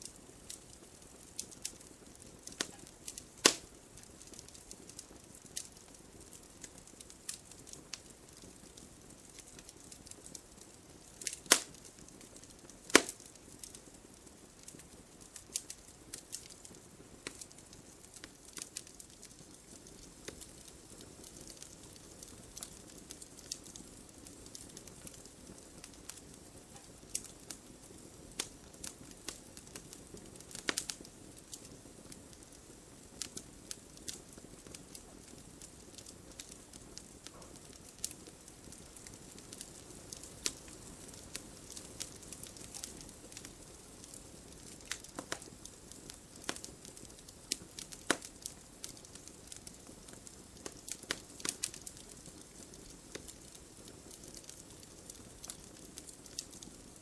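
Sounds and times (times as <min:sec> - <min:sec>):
burning wood crackling and popping: 0:00.0 - 0:57.0
campfire flames hissing: 0:00.0 - 0:57.0.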